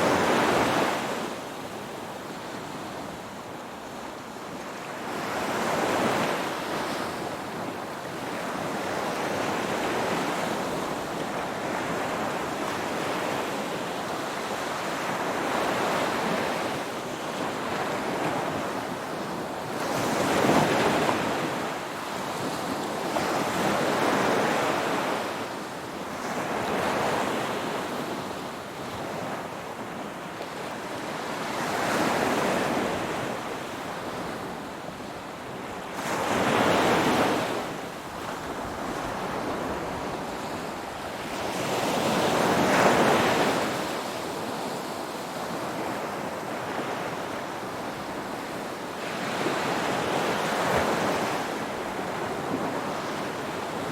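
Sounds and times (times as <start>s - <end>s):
ocean waves breaking on shore: 0.0s - 53.9s.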